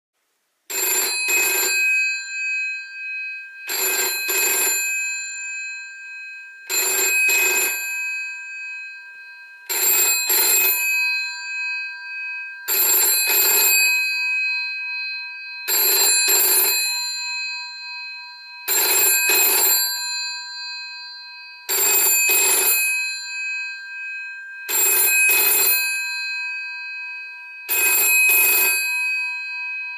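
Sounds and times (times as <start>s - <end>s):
telephone bell ringing: 0.7s - 29.9s.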